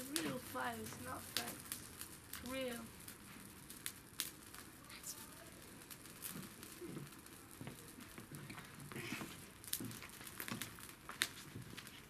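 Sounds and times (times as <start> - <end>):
bonfire crackling: 0.0 - 12.0
sharp fire snaps and pops: 0.0 - 12.0.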